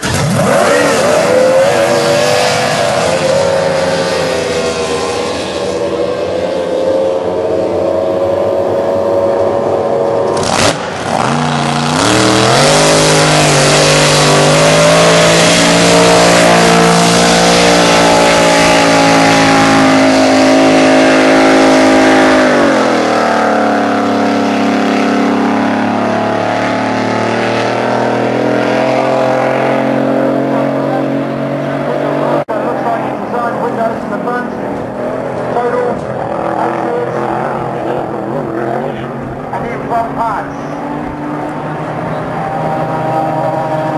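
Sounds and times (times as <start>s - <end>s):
powerboat engines racing: 0.0s - 43.9s.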